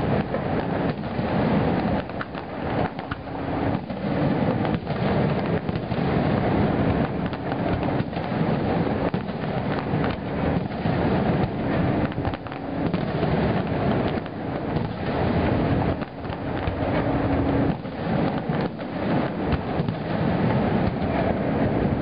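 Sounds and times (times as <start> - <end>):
fireworks bursting: 0.0 - 22.0
fireworks crackle: 0.0 - 22.0.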